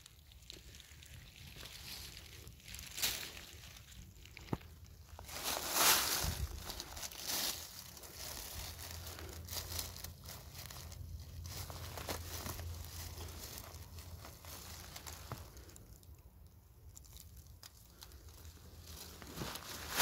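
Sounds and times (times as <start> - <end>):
dry leaves rustling and crinkling: 0.0 - 20.0.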